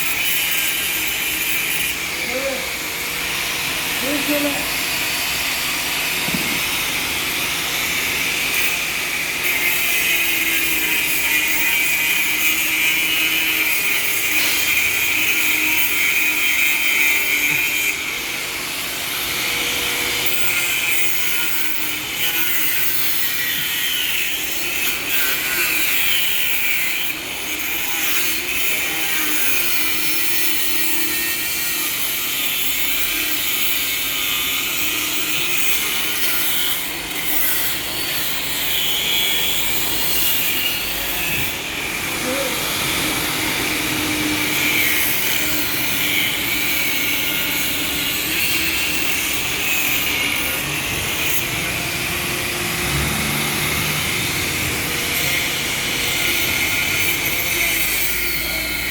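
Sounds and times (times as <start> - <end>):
power grinder grinding: 0.0 - 58.9.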